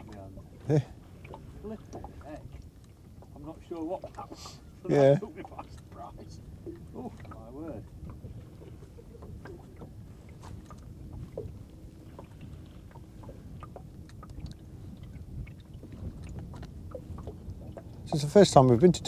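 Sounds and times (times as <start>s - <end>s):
low rumble of wind: 0.0s - 19.0s
waves lapping against boat hull: 0.0s - 19.0s.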